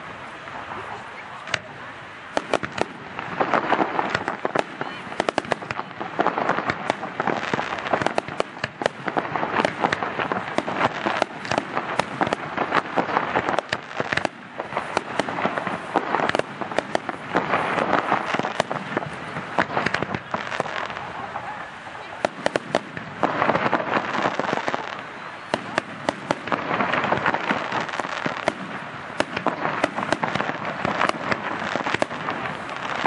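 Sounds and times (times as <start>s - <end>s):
firework shells bursting: 2.3s - 21.2s, 22.2s - 33.0s.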